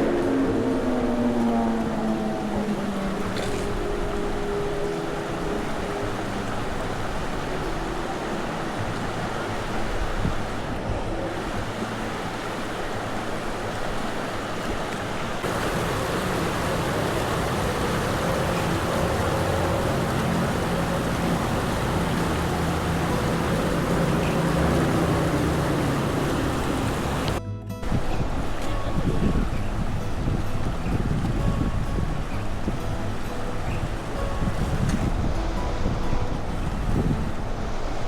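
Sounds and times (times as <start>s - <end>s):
low engine-like hum: 0.0s - 38.0s
rushing water or wind: 0.0s - 38.0s.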